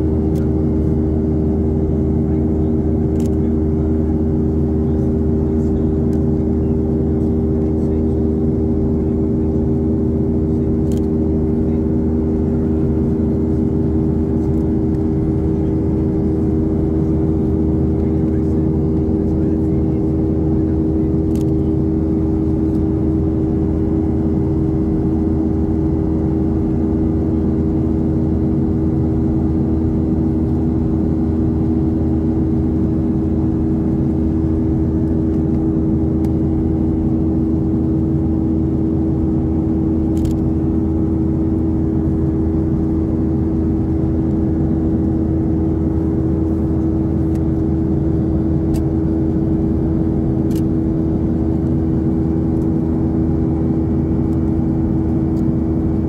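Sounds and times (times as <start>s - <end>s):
jet engine cabin rush and hum: 0.0s - 56.0s.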